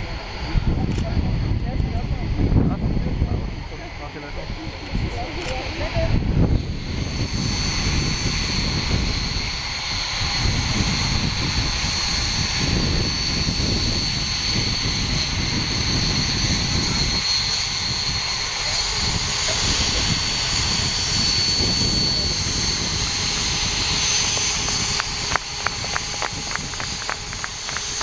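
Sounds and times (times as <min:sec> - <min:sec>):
jet engine noise with whine: 0:00.0 - 0:28.0.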